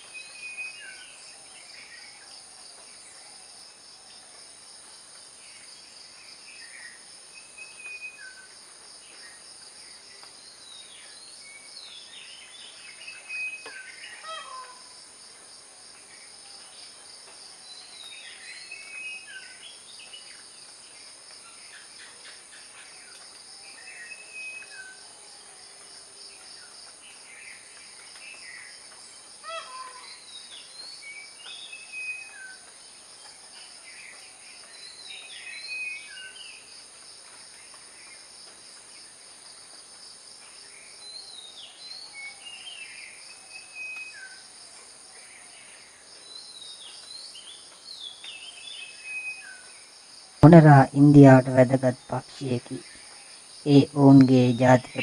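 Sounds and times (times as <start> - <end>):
insects chorus: 0.1 - 55.0.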